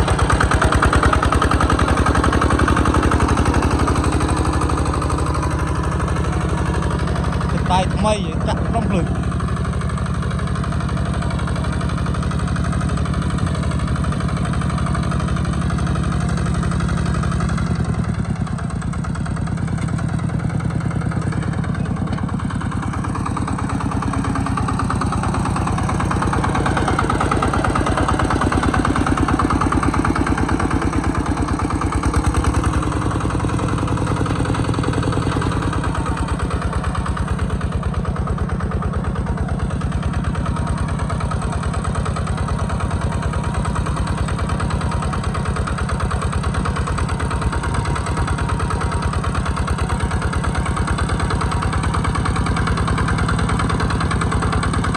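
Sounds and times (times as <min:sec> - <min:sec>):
diesel tractor engine chugging: 0:00.0 - 0:54.9.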